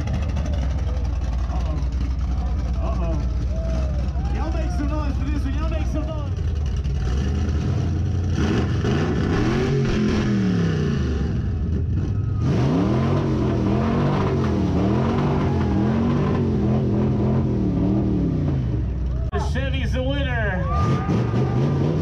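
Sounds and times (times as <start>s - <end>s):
pickup truck engine revving: 0.0s - 19.2s, 20.7s - 22.0s.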